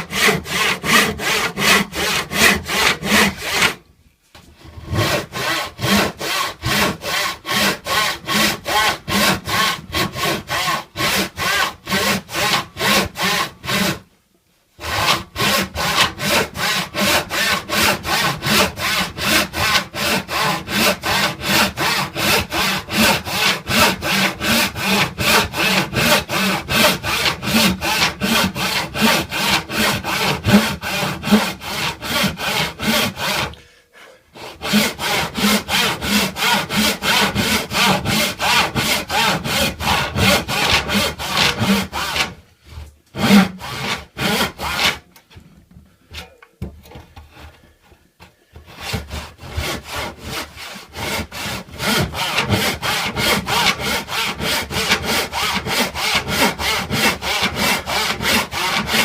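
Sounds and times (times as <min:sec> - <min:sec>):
hand saw cutting wood: 0:00.0 - 0:03.8, 0:04.6 - 0:14.0, 0:14.8 - 0:33.6, 0:34.4 - 0:45.0, 0:48.6 - 0:59.0.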